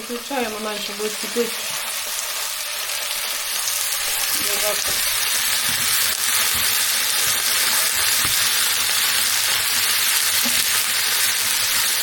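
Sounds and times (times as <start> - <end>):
food sizzling on a stovetop: 0.0 - 12.0.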